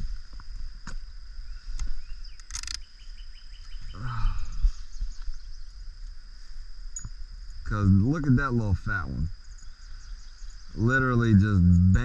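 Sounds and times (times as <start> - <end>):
insects singing in high drone: 0.0 - 12.0.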